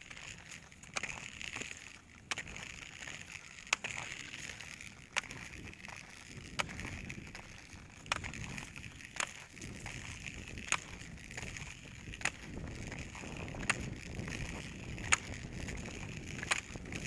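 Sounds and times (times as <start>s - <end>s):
ski pole tips clicking on pavement: 0.0s - 17.0s
wheels grinding on rough asphalt: 0.0s - 17.0s.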